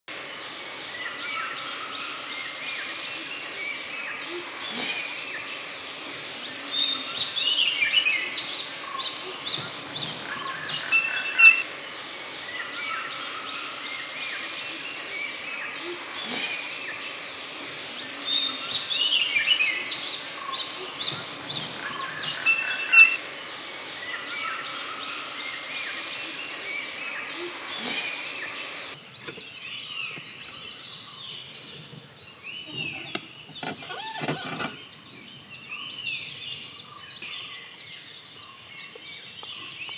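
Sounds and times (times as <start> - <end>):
forest birds chirping: 0.1 - 39.9.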